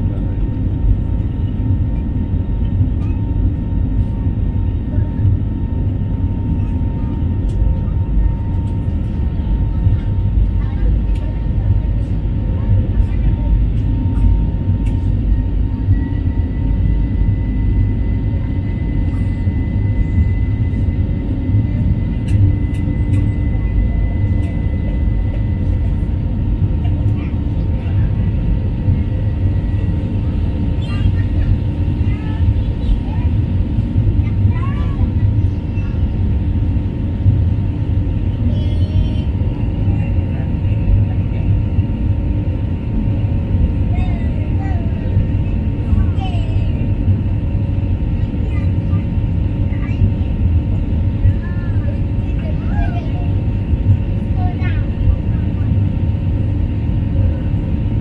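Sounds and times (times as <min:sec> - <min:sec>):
faint engine whine: 0:00.0 - 0:58.0
jet engines rumbling: 0:00.0 - 0:58.0.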